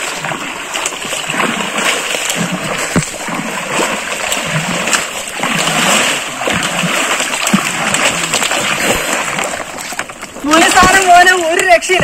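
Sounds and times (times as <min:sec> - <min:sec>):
water splashing from paddling: 0:00.0 - 0:12.0.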